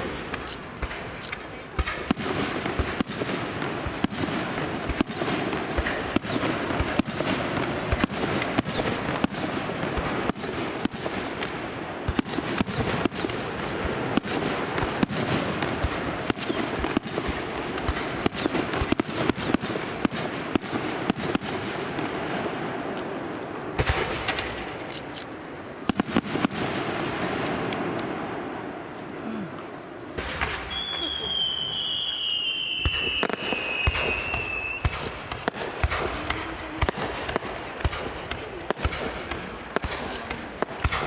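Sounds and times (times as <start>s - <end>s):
fireworks bangs: 0.0s - 41.0s
fireworks crackle: 0.0s - 41.0s.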